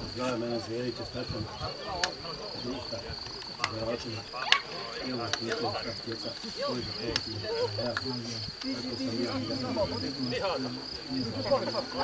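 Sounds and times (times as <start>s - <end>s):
crickets trilling: 0.0s - 12.0s
distant shouting voices: 0.0s - 12.0s.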